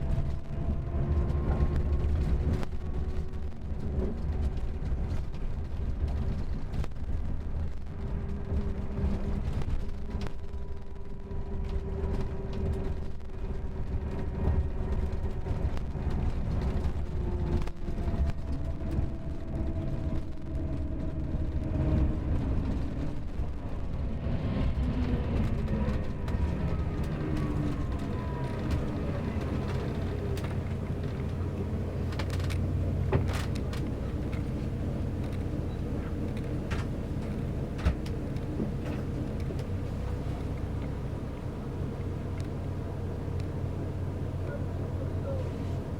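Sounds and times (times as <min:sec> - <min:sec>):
diesel coach engine rumbling: 0:00.0 - 0:45.9.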